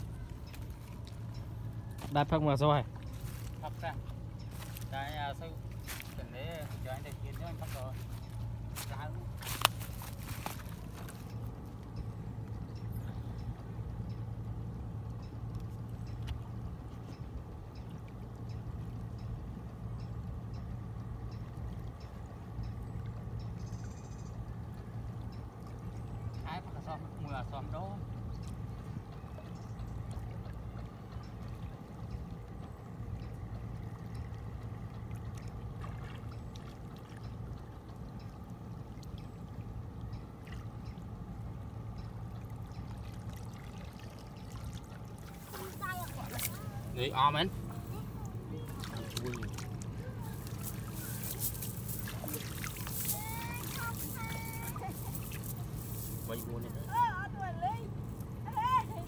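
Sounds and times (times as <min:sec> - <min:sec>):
low hum: 0:00.0 - 0:59.0
water sloshing and trickling: 0:00.0 - 0:59.0.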